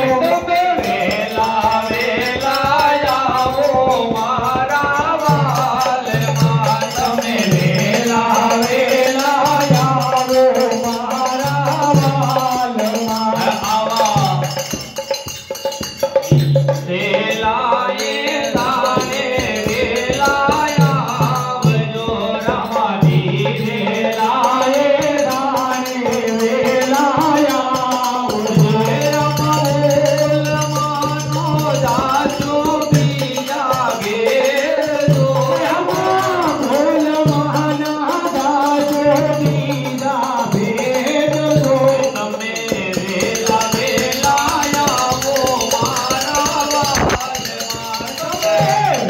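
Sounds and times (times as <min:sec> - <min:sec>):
man singing: 0:00.0 - 0:49.0
music with percussion: 0:00.0 - 0:49.0.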